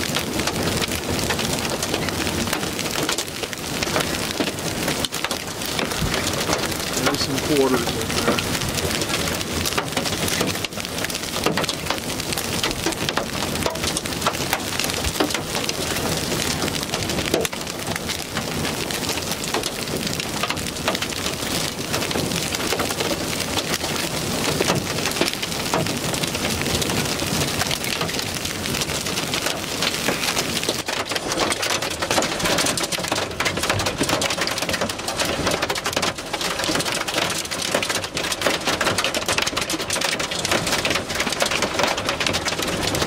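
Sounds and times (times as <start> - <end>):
hail and rain pelting vehicle: 0.0 - 43.0.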